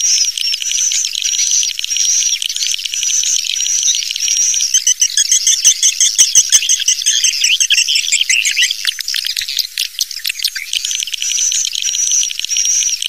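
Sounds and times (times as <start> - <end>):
high-pitched bird twittering: 0.0 - 13.0.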